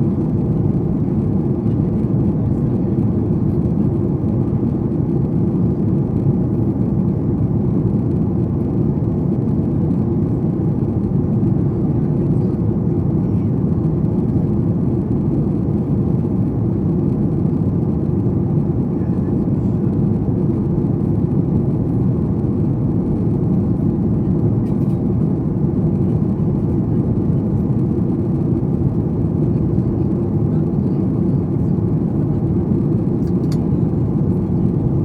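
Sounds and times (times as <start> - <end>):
airflow along fuselage: 0.0 - 35.0
airplane cabin engine rumble: 0.0 - 35.0.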